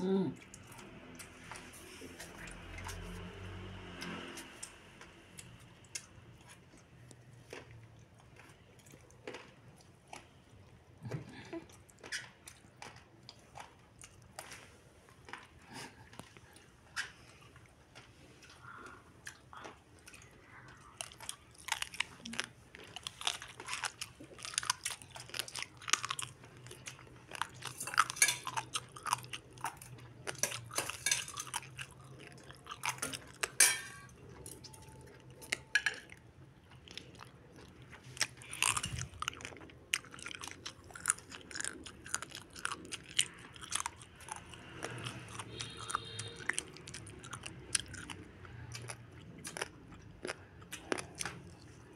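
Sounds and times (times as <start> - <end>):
crunchy chewing of cartilage: 0.4 - 51.9.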